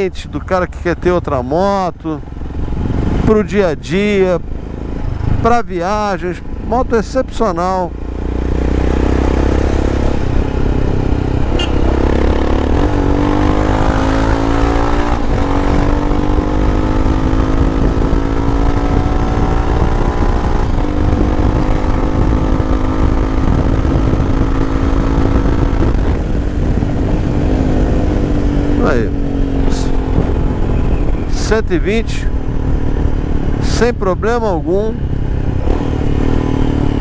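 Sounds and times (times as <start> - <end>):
heavy wind rush: 0.0 - 37.0
motorcycle engine running: 0.0 - 37.0.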